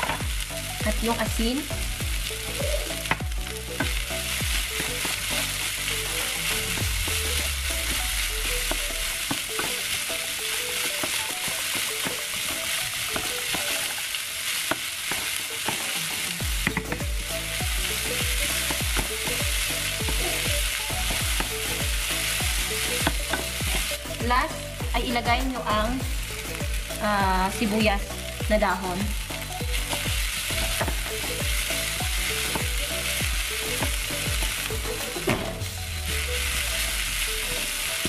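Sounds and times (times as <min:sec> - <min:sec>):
food sizzling in oil: 0:00.0 - 0:38.0.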